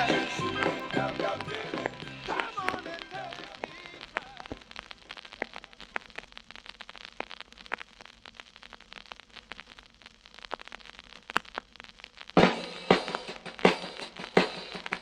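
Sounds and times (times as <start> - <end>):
vinyl crackles and pops: 0.0 - 15.0
vinyl record hiss: 0.0 - 15.0.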